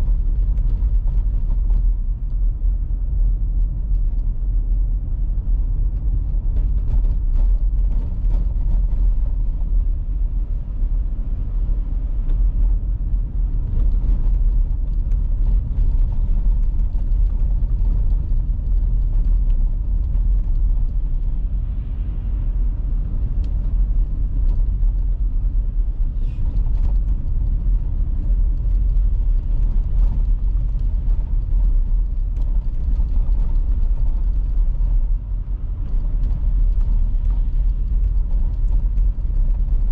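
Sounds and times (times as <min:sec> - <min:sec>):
car driving on icy road: 0:00.0 - 0:39.9.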